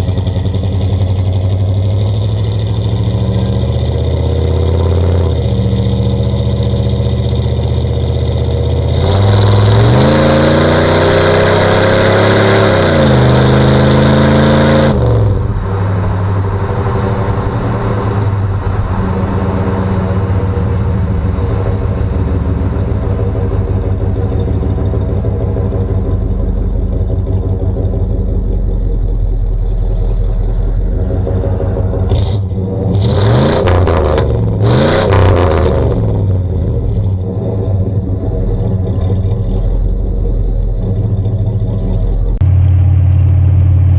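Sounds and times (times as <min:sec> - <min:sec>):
pickup truck engine under load: 0:00.0 - 0:43.9.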